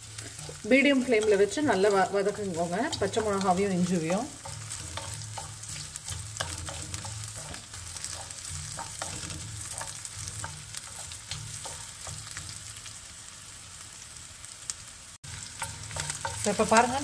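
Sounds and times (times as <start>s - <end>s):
wooden spatula scraping a pan: 0.0s - 12.8s, 15.4s - 17.0s
food sizzling in oil: 0.0s - 17.0s.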